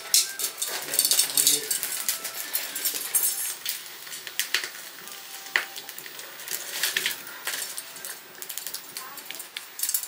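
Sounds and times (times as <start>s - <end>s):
wood fire crackling and sizzling: 0.0s - 10.0s.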